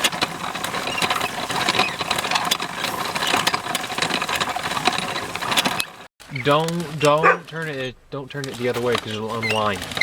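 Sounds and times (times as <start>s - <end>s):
hand-crank ice cream maker grinding: 0.0s - 7.7s, 8.4s - 10.0s.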